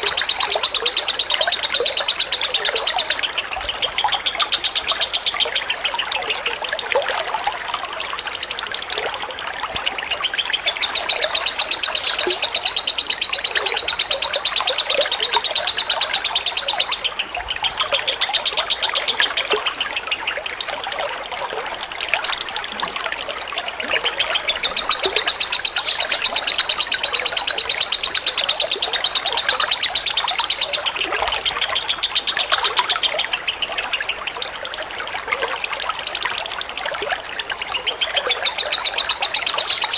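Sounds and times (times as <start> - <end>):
bird chattering trill: 0.0 - 39.9
water trickling: 0.0 - 39.9.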